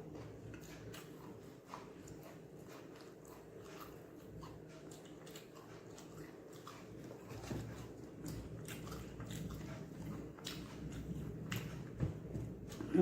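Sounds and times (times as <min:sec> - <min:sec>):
person chewing with wet mouth smacks: 0:00.2 - 0:12.9.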